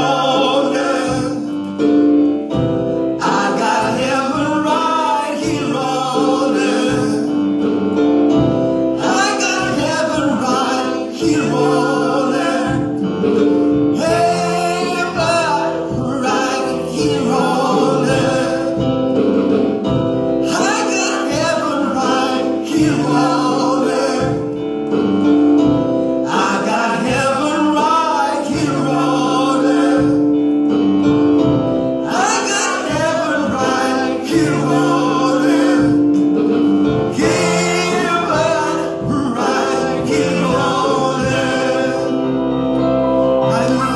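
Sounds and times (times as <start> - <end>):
vocal group singing: 0.0 - 30.7, 31.3 - 43.9
instrumental backing with bass line: 0.0 - 43.9.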